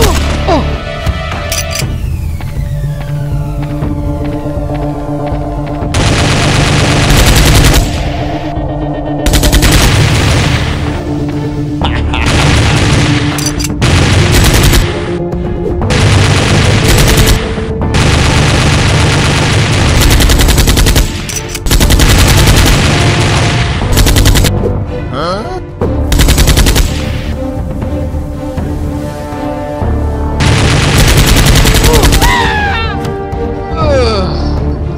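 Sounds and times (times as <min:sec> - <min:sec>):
background music: 0:00.0 - 0:34.9.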